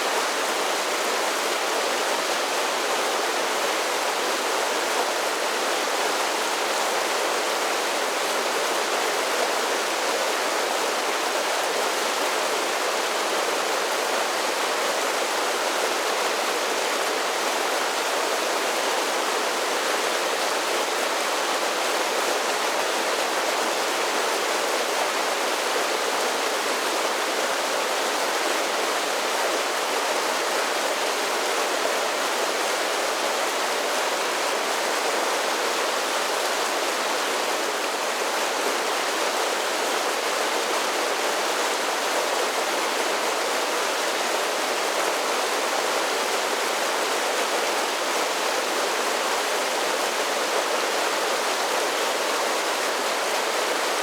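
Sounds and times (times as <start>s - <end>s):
creek water cascading over falls: 0.0s - 54.0s.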